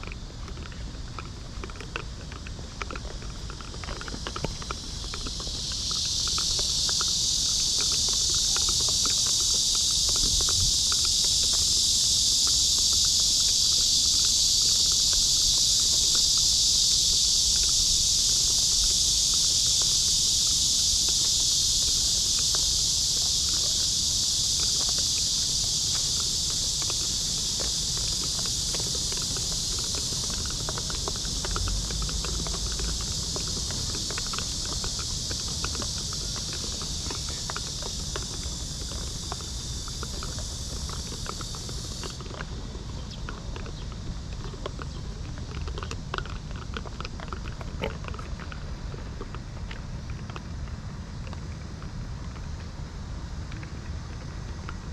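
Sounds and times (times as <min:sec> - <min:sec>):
cicadas shrill hiss: 0:00.0 - 0:54.9.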